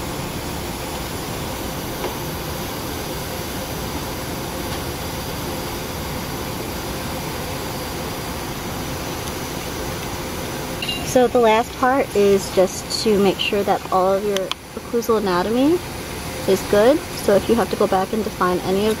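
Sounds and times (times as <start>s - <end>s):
ventilation hiss and rumble: 0.0s - 19.0s.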